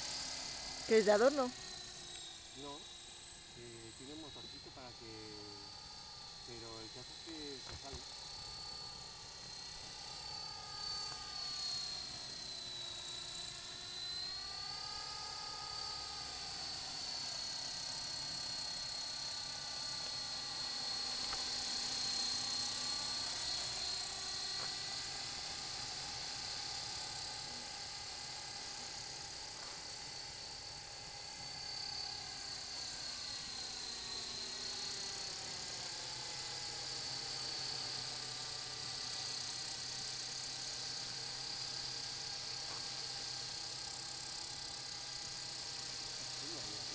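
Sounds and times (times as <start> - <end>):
toy helicopter motor whine: 0.0 - 46.9.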